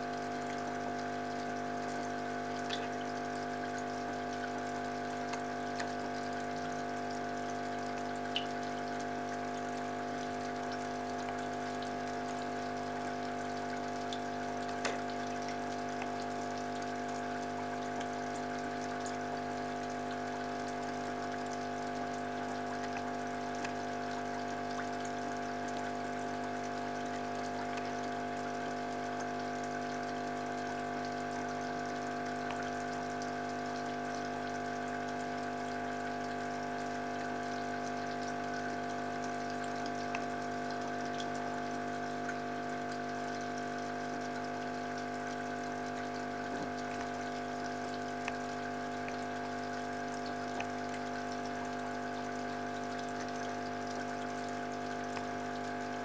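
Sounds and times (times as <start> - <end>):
aquarium pump humming: 0.0 - 56.0
water trickling: 0.0 - 56.0.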